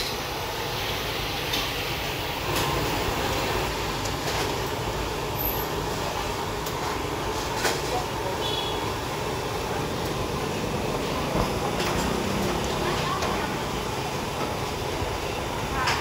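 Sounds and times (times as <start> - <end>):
deep-frying sizzle: 0.0 - 16.0.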